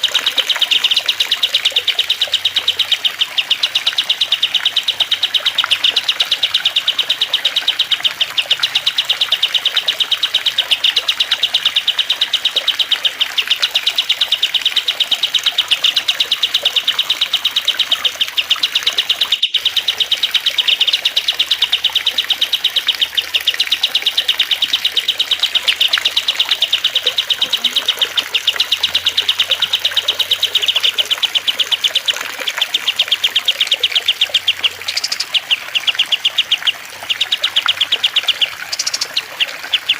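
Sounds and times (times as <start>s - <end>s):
songbirds chirping: 0.0s - 39.9s
water trickling: 0.0s - 39.9s.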